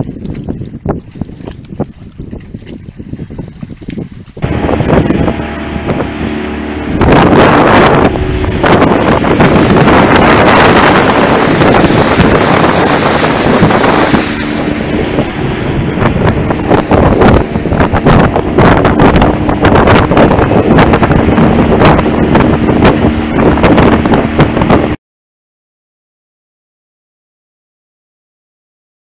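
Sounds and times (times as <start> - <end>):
outboard motor running: 0.0 - 25.0
rushing water and spray: 0.0 - 25.0
wind on microphone: 0.0 - 25.0.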